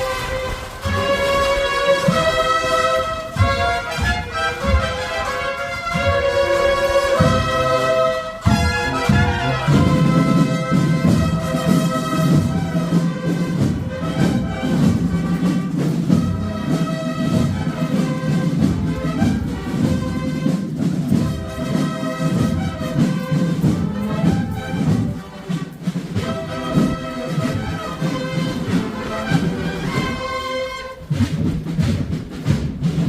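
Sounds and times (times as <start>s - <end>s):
brass band march with drums: 0.0s - 33.0s.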